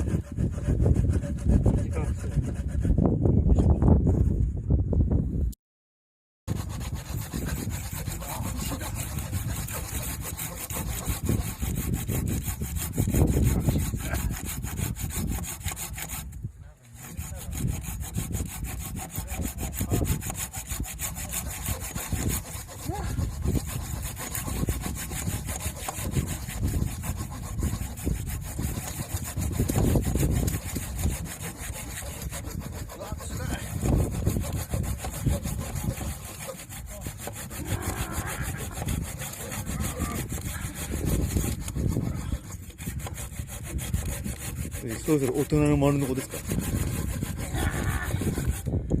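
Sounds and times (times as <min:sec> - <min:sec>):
hand saw cutting log: 0:00.0 - 0:03.1, 0:06.5 - 0:49.0.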